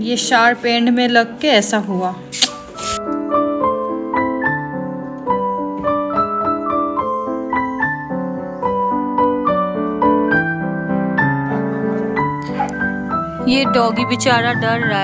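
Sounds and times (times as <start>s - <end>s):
keyboard melody over chords: 2.8s - 15.0s.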